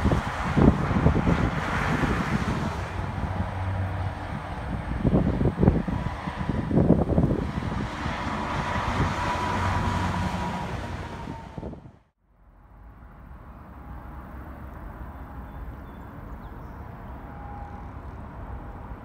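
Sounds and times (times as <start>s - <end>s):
steady outdoor noise: 0.0s - 19.0s
truck and highway traffic passing: 0.0s - 19.0s.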